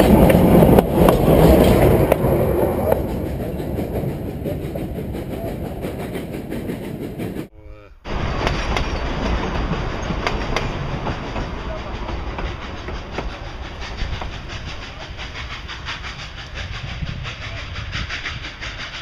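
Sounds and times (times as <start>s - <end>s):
train rumble: 0.0s - 7.5s, 8.1s - 19.0s
train wheels clickety-clack: 0.0s - 7.5s, 8.2s - 19.0s.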